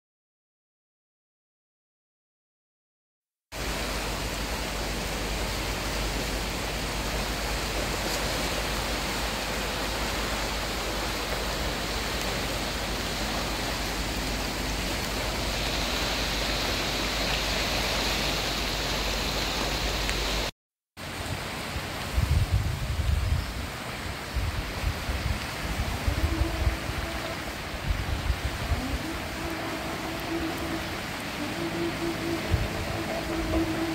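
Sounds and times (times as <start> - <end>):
river rushing: 3.6 - 33.9.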